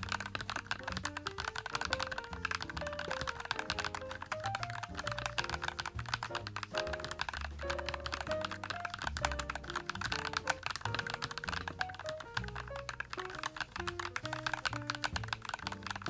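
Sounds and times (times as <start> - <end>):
background music: 0.0 - 16.0
fast keyboard typing: 0.0 - 16.0.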